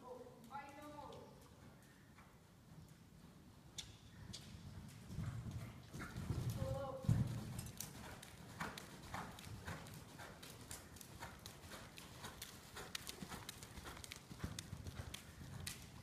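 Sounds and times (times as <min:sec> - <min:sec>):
hoofbeats on soft ground: 0:00.8 - 0:16.0.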